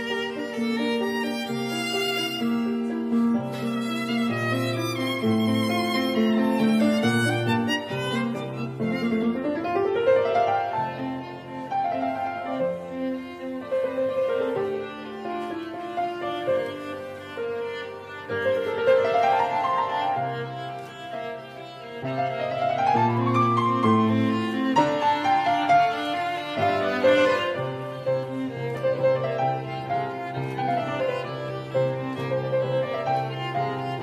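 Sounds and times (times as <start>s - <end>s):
strings and piano classical piece: 0.0s - 34.0s.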